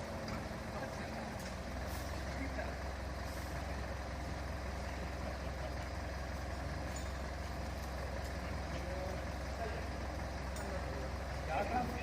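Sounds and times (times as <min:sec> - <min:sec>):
fire truck engine idling: 0:00.0 - 0:12.0.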